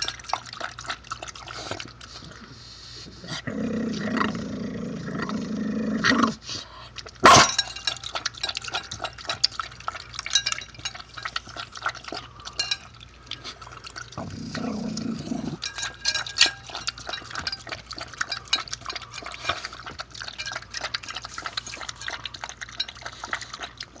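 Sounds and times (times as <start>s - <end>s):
dog lapping liquid: 0.0s - 4.4s, 5.0s - 24.0s.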